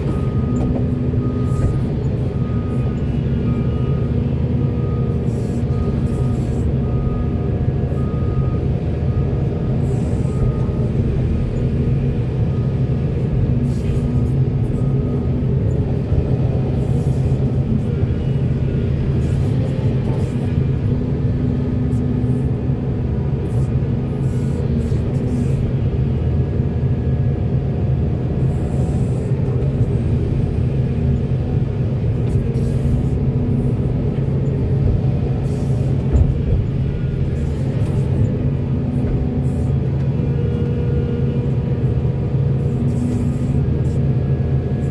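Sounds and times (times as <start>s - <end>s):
diesel construction machinery running: 0.0s - 44.9s.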